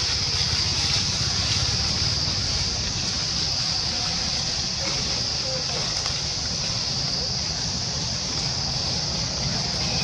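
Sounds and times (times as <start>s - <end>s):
high-pitched hiss: 0.0s - 10.0s.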